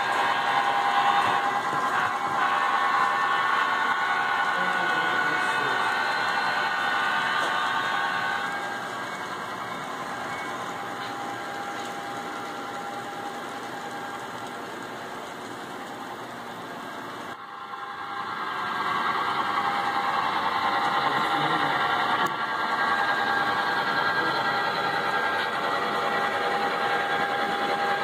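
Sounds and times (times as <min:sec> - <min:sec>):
model train humming and rattling: 0:00.0 - 0:28.0.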